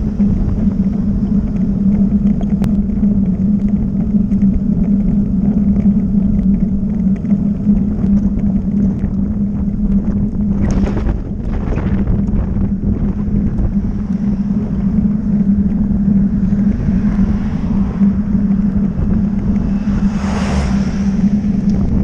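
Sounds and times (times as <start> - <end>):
constant hum: 0.0 - 22.0
wind buffeting microphone: 0.0 - 22.0.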